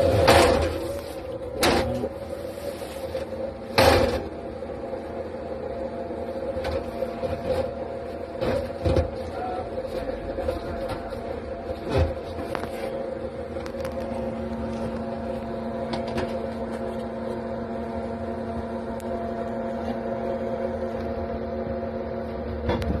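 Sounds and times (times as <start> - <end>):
cooling fan humming: 0.0 - 23.0.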